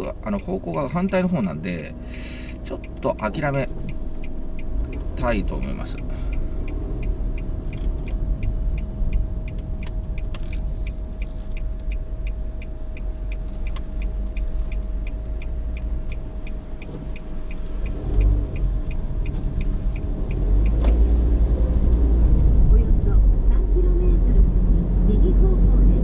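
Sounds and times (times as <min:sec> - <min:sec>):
car engine and road rumble: 0:00.0 - 0:26.0
turn signal ticking: 0:00.0 - 0:26.0.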